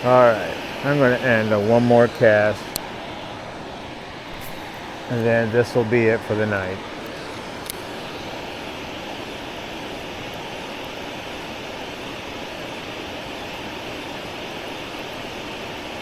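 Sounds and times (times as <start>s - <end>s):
water rushing through spillway: 0.0s - 16.0s.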